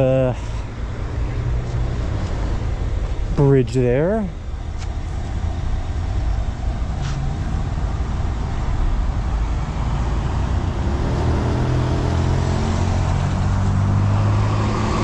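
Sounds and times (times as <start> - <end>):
large vehicle engine rumbling: 0.0 - 15.0.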